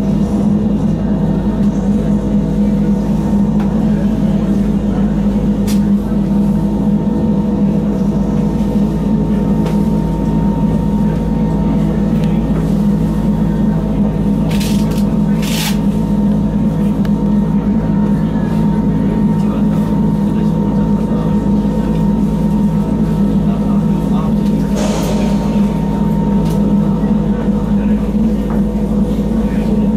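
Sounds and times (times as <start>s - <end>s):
train drone with held tones: 0.0s - 29.9s.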